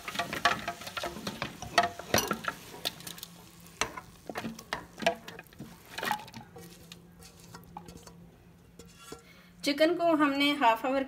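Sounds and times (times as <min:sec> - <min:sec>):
spatula scraping a pan: 0:00.0 - 0:09.4.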